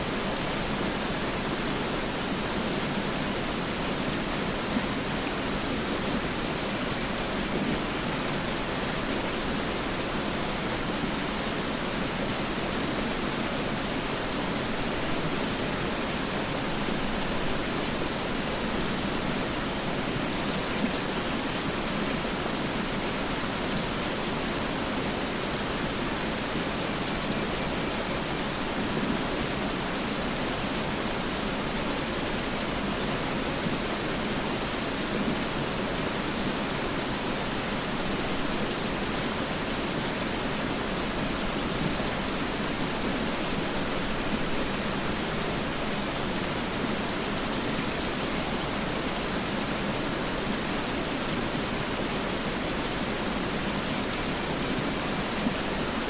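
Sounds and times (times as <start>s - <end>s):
river flowing over rocks: 0.1s - 56.0s.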